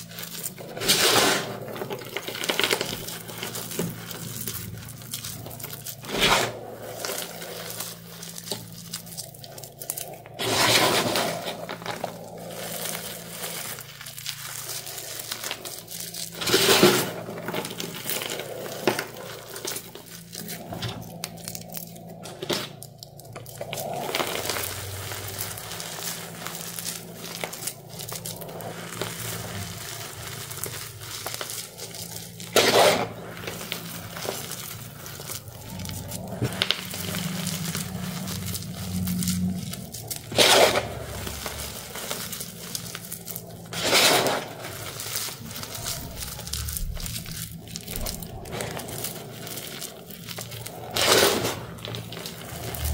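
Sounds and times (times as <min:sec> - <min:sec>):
hands crumbling dry powder clumps: 0:00.0 - 0:52.9.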